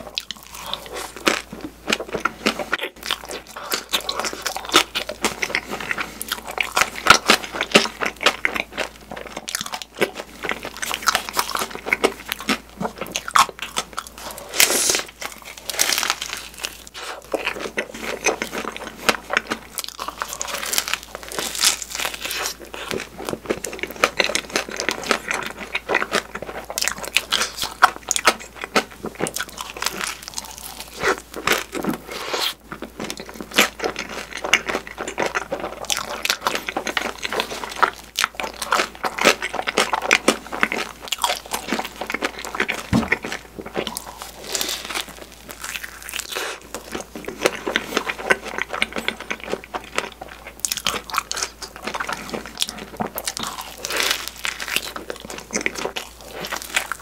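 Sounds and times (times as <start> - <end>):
biting and chewing: 0.0 - 57.0.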